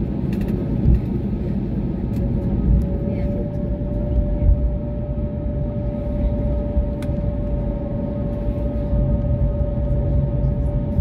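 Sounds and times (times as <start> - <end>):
jet engines whining: 0.0 - 11.0
low rumble: 0.0 - 11.0.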